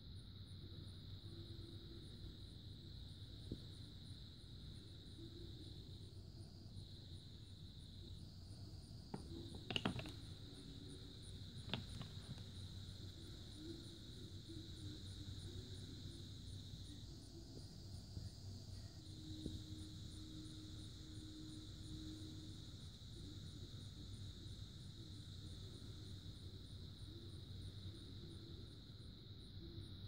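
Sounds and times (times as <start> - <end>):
faint high-pitched drone: 0.0 - 30.0.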